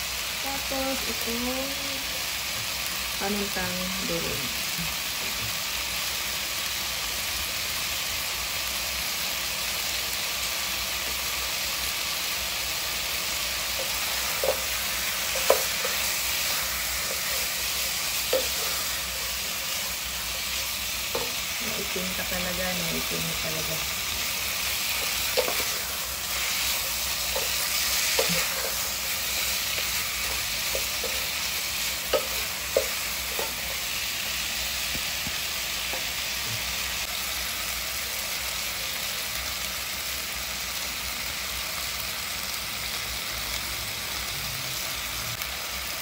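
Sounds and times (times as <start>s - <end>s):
chicken sizzling in a pot: 0.0s - 46.0s.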